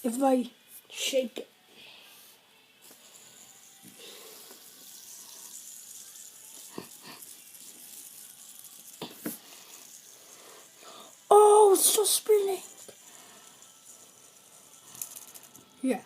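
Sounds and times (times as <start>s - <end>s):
fidget spinner bearing whirring: 2.1s - 16.0s.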